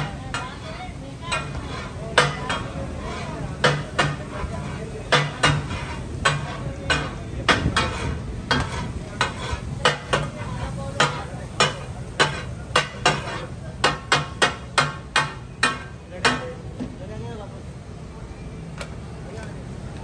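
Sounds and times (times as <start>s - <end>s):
fish sizzling: 0.0s - 16.1s
metal spatulas clanging on griddle: 0.0s - 16.6s.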